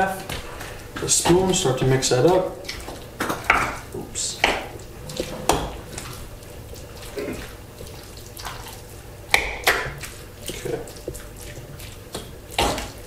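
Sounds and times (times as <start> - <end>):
wet squishing: 0.0 - 13.0.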